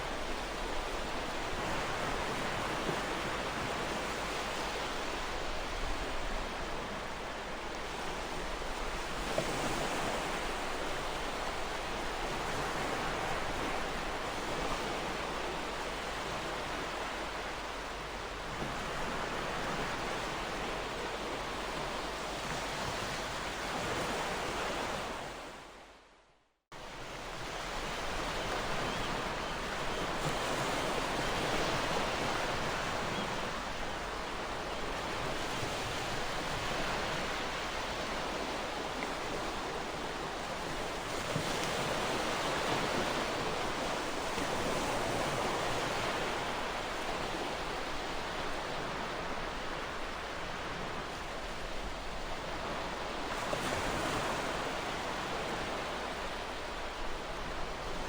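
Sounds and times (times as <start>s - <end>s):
ocean waves breaking on shore: 0.0s - 25.8s, 26.8s - 58.0s.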